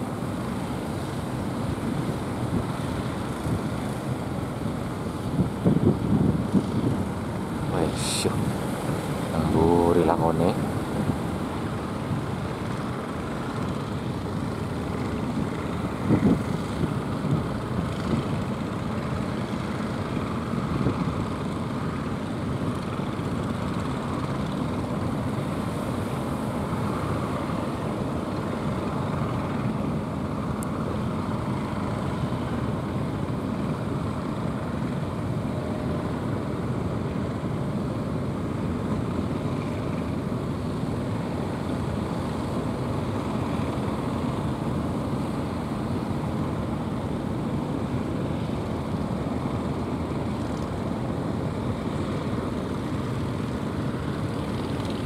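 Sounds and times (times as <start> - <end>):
boat engine running: 0.0 - 55.0
choppy water: 0.0 - 55.0.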